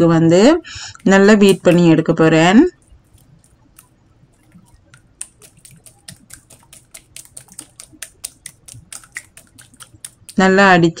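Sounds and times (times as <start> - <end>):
whisk ticking against glass bowl: 0.8 - 11.0.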